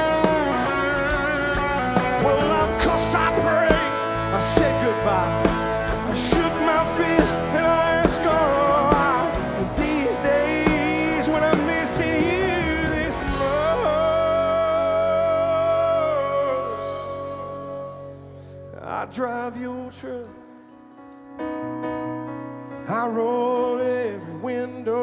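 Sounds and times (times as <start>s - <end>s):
lead vocal singing: 0.0s - 20.5s
drums: 0.0s - 21.3s
country-rock band playing: 0.0s - 22.1s.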